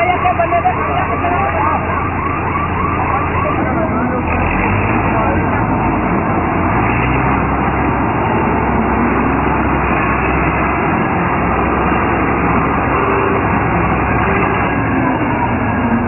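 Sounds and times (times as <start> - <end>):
combine harvester engine running: 0.0 - 16.0.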